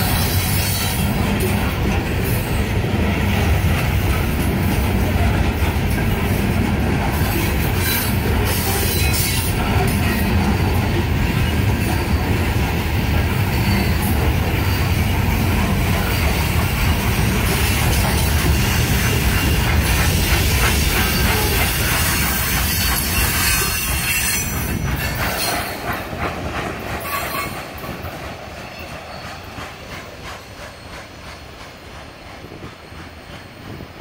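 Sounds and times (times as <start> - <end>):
freight train wheels rumbling on rails: 0.0 - 34.0.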